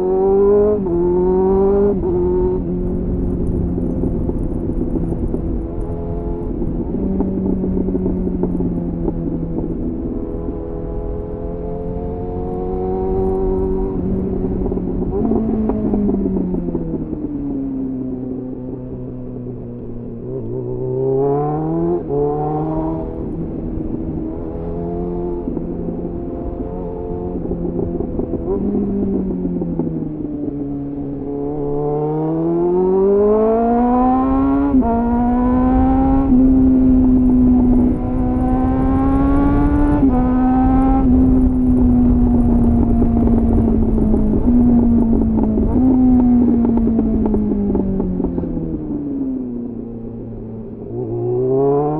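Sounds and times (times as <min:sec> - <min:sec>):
motorcycle engine revving: 0:00.0 - 0:18.8, 0:20.0 - 0:51.9
wind rushing over microphone: 0:00.0 - 0:51.9.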